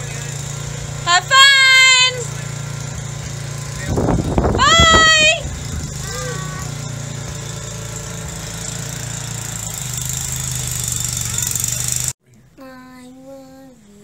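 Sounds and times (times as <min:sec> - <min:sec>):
engine humming steadily: 0:00.0 - 0:12.2.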